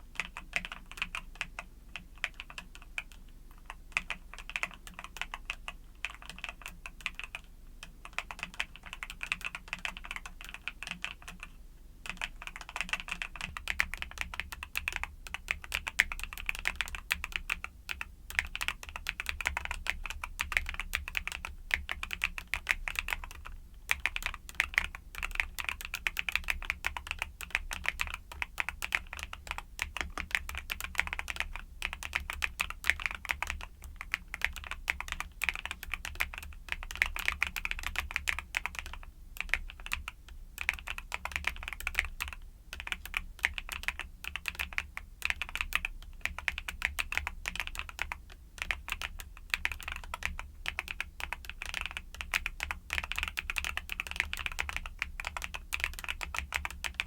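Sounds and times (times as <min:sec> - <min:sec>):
mechanical keyboard typing: 0:00.1 - 0:57.0.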